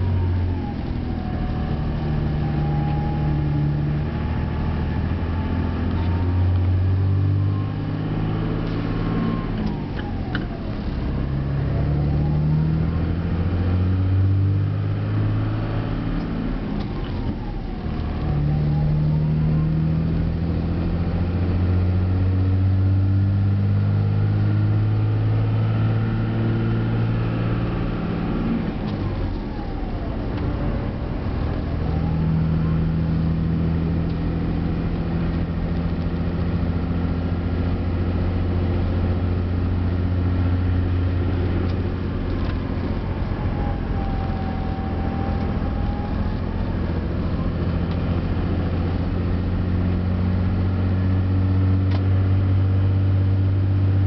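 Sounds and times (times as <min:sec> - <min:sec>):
diesel engine droning under load: 0:00.0 - 0:54.0.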